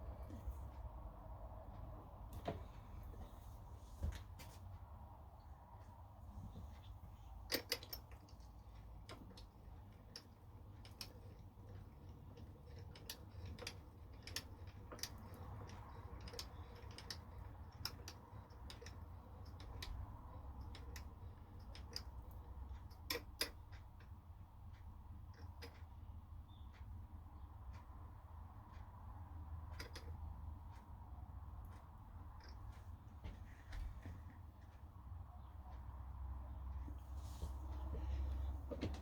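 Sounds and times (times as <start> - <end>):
light clicks and taps: 0.0 - 39.0
low steady hum: 0.0 - 39.0.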